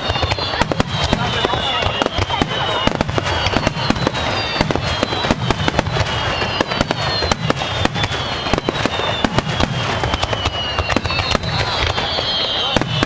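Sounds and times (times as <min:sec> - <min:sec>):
falling whistling tones: 0:00.0 - 0:13.0
fireworks crackling and banging: 0:00.0 - 0:13.0.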